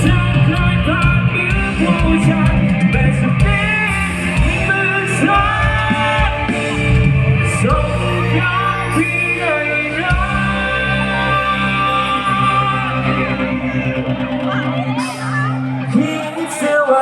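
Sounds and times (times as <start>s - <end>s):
steady drum beat: 0.0s - 16.6s
dance band playing: 0.0s - 17.0s
person singing: 0.0s - 17.0s.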